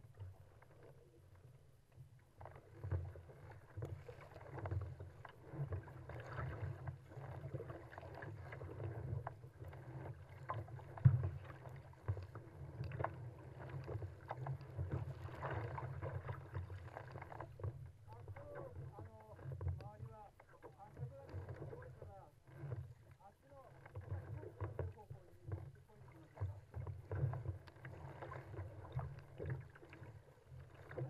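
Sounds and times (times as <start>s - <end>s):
water splashing against kayak hull: 0.0s - 31.0s.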